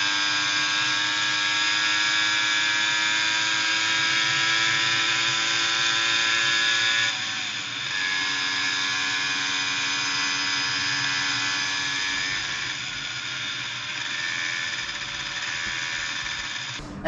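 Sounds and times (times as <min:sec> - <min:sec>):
scooter engine buzzing: 0:00.0 - 0:16.9.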